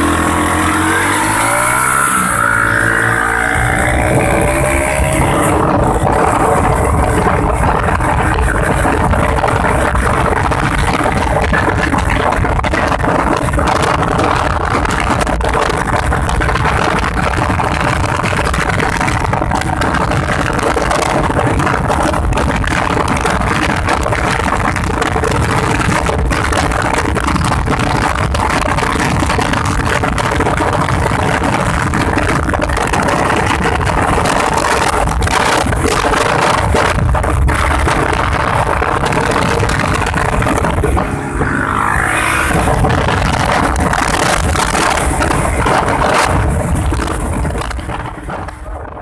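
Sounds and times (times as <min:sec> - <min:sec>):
loud rush of noise: 0:00.0 - 0:49.0
racing motorcycle engine: 0:00.0 - 0:49.0.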